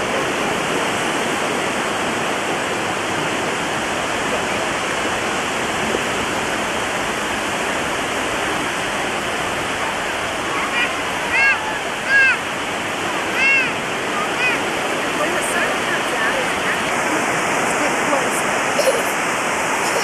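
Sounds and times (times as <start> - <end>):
surf rushing: 0.0 - 20.0
wind: 0.0 - 20.0.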